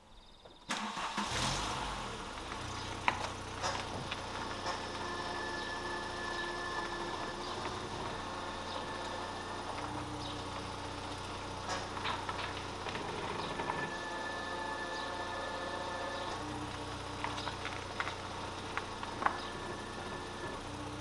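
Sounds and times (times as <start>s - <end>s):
car engine idling: 0.7s - 21.0s.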